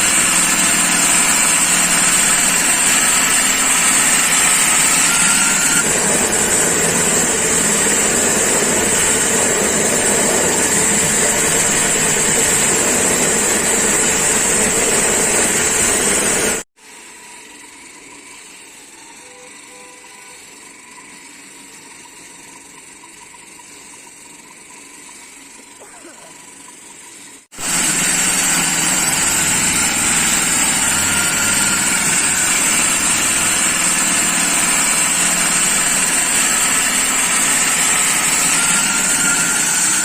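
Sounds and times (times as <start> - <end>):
concrete saw grinding whine: 0.0 - 40.0.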